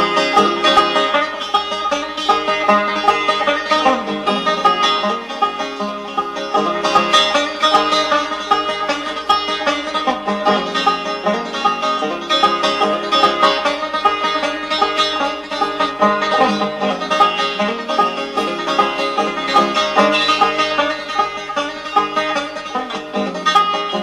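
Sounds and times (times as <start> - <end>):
plucked string music: 0.0 - 24.0.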